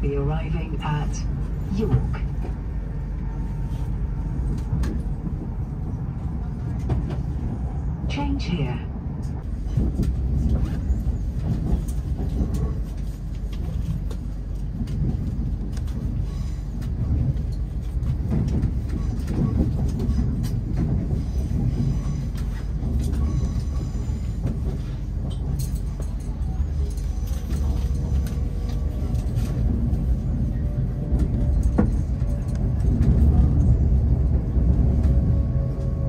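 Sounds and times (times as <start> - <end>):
train cabin rumble: 0.0 - 36.0.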